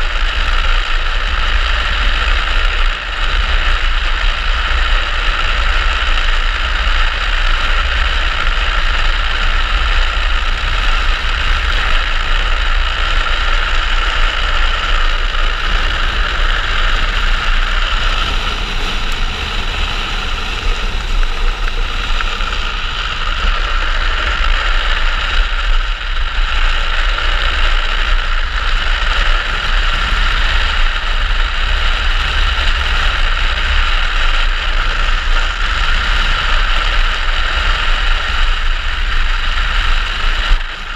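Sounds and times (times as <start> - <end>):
wheels rolling on asphalt: 0.0 - 40.9
wind buffeting a camera: 0.0 - 40.9.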